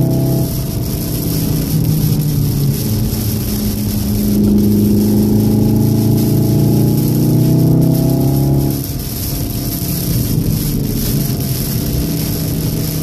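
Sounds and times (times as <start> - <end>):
car engine from inside cabin: 0.0 - 13.0
rain and tyre spray hiss: 0.0 - 13.0.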